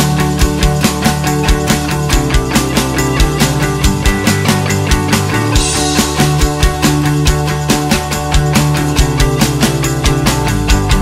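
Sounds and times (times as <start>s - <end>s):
rock music with fast drums: 0.0s - 11.0s.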